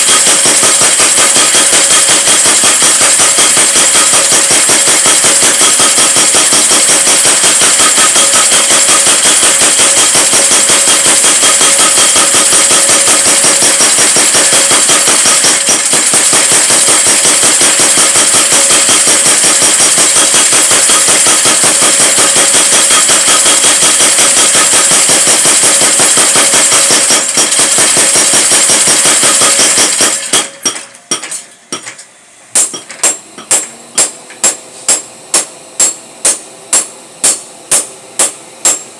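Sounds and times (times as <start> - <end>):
power hammer pounding: 0.0 - 38.9.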